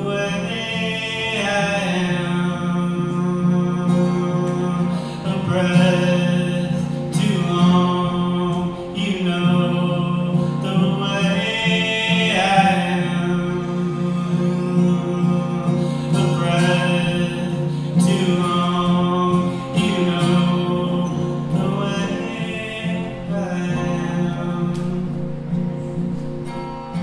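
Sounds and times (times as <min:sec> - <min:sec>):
man singing: 0:00.0 - 0:25.9
acoustic guitar: 0:00.0 - 0:27.0.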